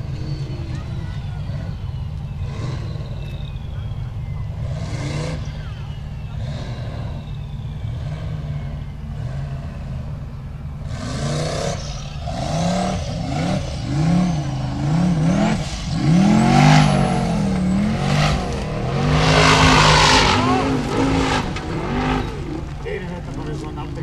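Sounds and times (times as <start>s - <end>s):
buggy engine revving: 0.0s - 24.0s.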